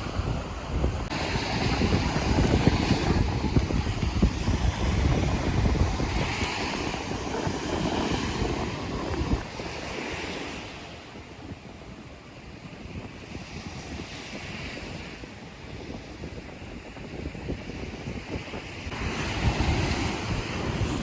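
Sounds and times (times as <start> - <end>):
ocean surf: 0.0 - 21.0
wind buffeting microphone: 0.0 - 21.0.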